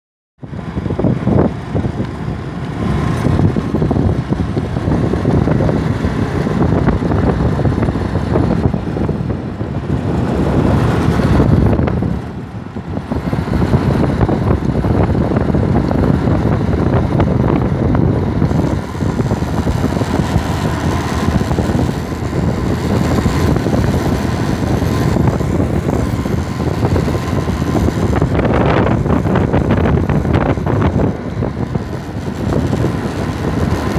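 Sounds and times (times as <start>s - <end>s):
motorcycle engine running: 0.4s - 33.9s
wind rushing over microphone: 0.4s - 33.9s.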